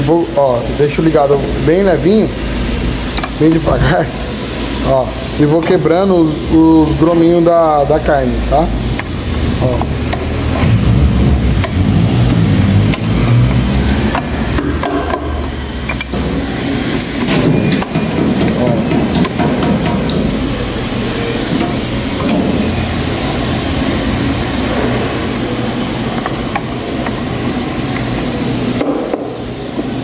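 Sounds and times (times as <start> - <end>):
mixer motor humming: 0.0 - 30.0
meat frying in pot: 2.2 - 30.0.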